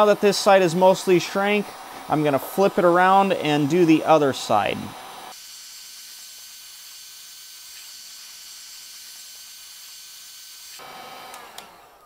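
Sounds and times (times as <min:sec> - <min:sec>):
heat gun hissing: 0:00.0 - 0:12.0.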